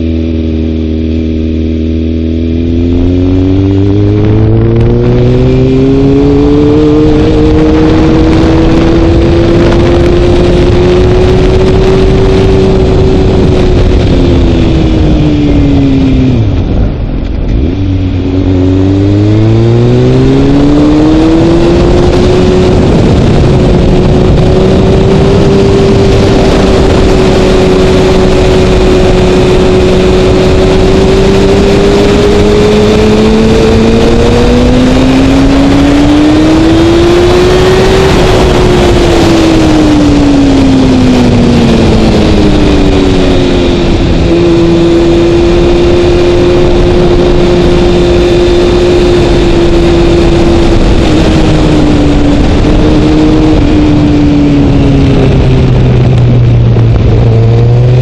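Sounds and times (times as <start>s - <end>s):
sport bike engine revving: 0.0s - 58.0s
wind noise: 0.0s - 58.0s.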